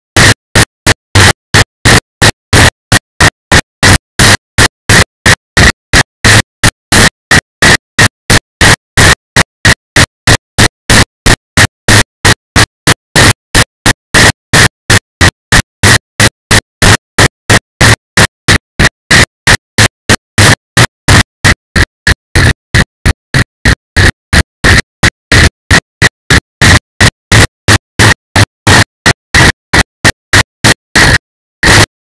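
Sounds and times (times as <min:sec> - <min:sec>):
stuttering distorted noise bursts: 0:00.2 - 0:32.0.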